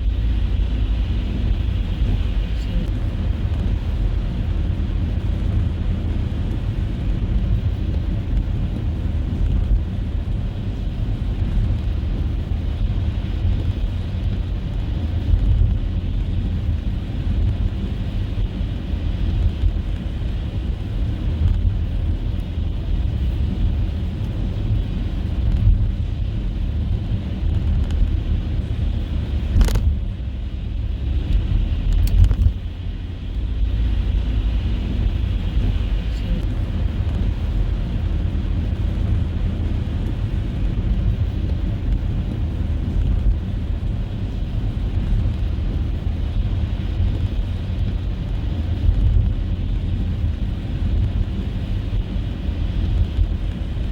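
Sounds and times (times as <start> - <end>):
car driving on snow: 0.0 - 53.9.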